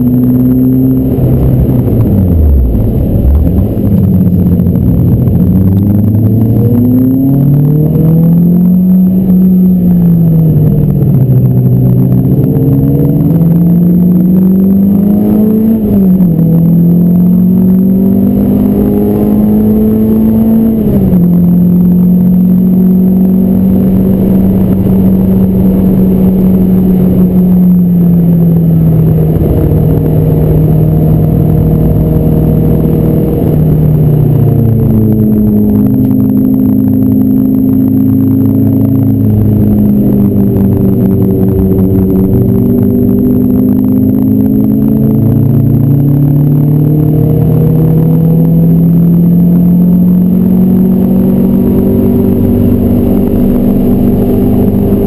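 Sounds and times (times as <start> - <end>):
car engine running hard: 0.0 - 55.0
tyre and road noise: 0.0 - 55.0.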